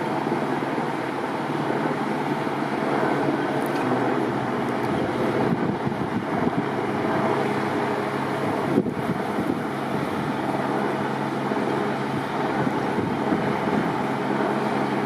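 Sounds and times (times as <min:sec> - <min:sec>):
idling vehicle engines hum: 0:00.0 - 0:15.0
wind buffeting microphone: 0:00.0 - 0:15.0.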